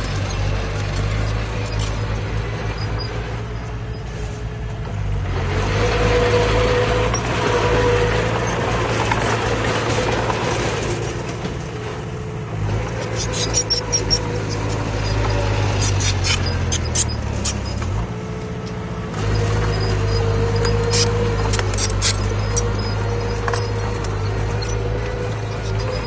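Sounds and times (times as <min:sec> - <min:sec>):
engine whine under load: 0:00.0 - 0:26.0
heavy diesel engine droning: 0:00.0 - 0:26.0.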